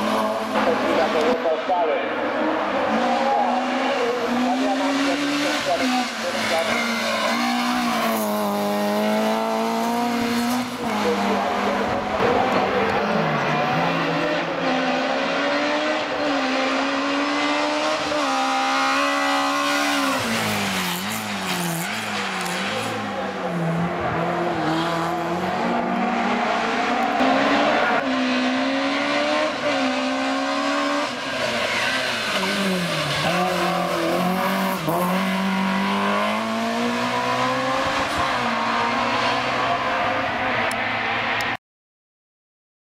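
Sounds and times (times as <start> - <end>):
racing car engine revving: 0.0 - 41.5.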